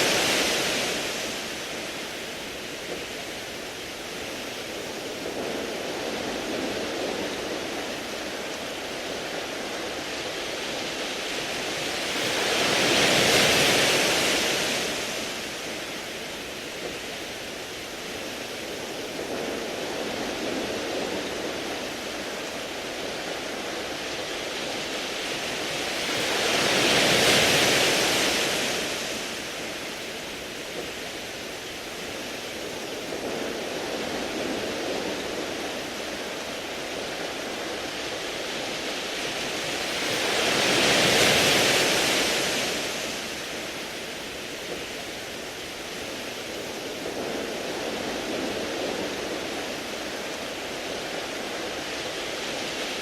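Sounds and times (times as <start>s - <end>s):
sea waves washing over pebbles: 0.0s - 53.0s.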